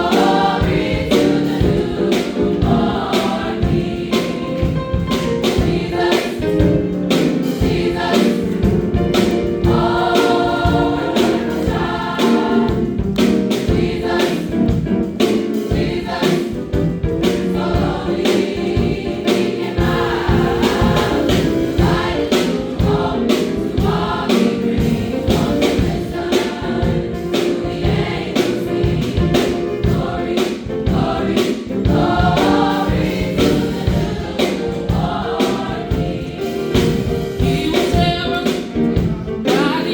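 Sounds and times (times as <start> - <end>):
band accompaniment: 0.0 - 39.9
choir singing gospel song: 0.0 - 39.9.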